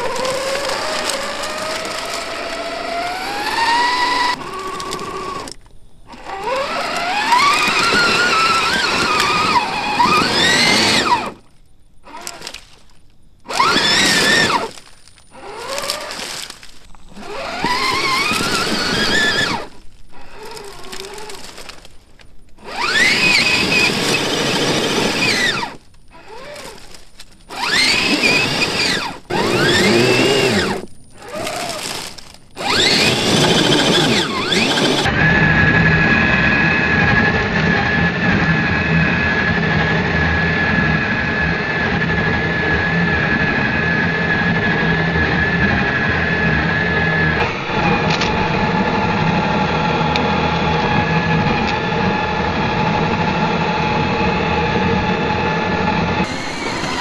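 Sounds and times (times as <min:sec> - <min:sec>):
rc car motor and gear whine: 0:00.0 - 0:57.0.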